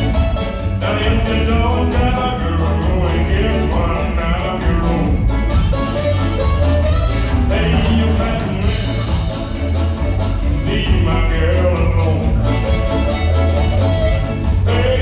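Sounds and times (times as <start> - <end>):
harmonica melody: 0.0 - 15.0
live ska band playing: 0.0 - 15.0.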